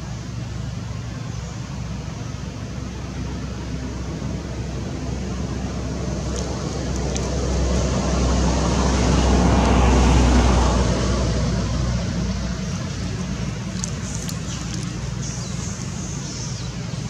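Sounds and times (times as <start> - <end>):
road vehicle passing by: 0.0 - 17.0.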